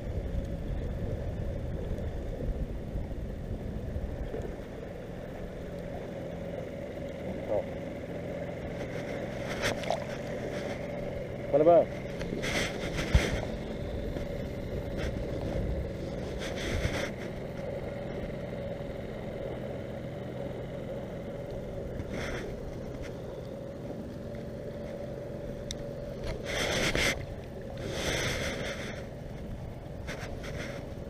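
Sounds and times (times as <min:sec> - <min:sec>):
distant motorboat engine: 0:00.0 - 0:31.0.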